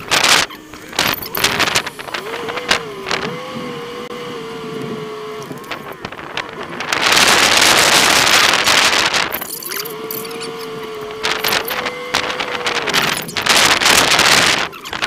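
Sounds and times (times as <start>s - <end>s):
engine whine: 0.0s - 15.0s.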